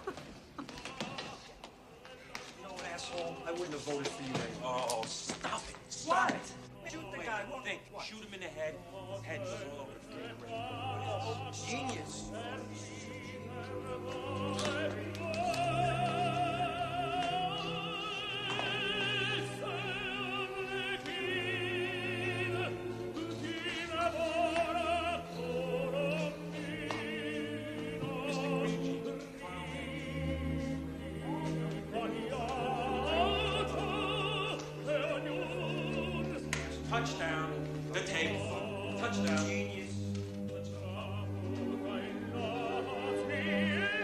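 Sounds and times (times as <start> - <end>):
operatic singing with vibrato: 0.0 - 44.0
orchestral accompaniment: 2.7 - 44.0.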